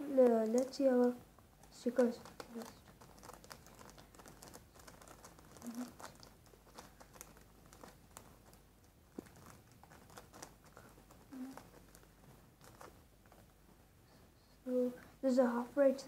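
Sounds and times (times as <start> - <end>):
packaging crinkling: 0.1 - 13.5.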